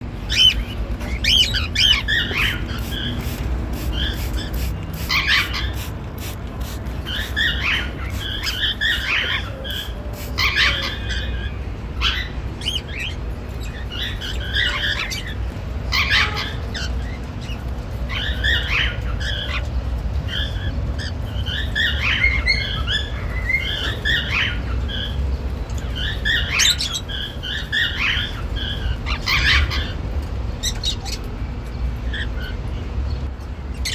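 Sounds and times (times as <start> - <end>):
cockatiels chirping and squawking: 0.2 - 31.3.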